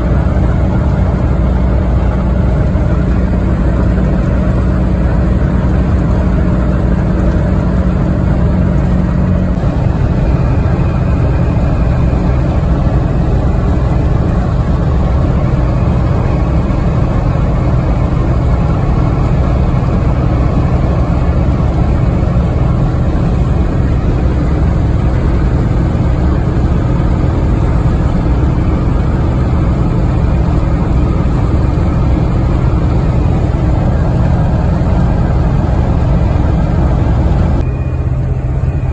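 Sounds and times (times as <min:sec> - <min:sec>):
diesel truck engine running: 0:00.0 - 0:38.9
road noise: 0:00.0 - 0:38.9.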